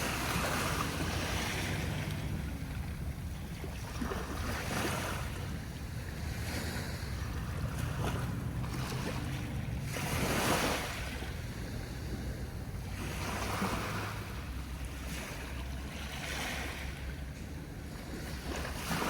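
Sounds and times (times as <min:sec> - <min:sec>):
small waves washing onto beach: 0:00.0 - 0:19.0
wind rumble on microphone: 0:00.0 - 0:19.0.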